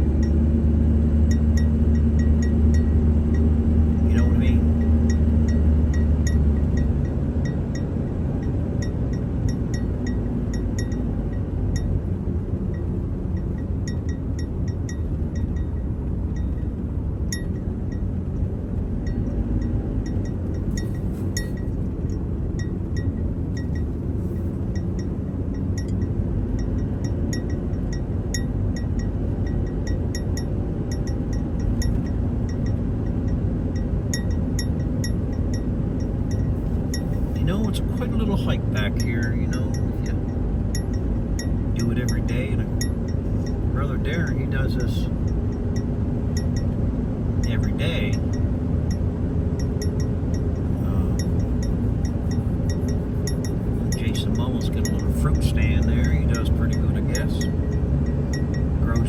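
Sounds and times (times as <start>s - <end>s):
vehicle road noise rumble: 0.0s - 59.0s.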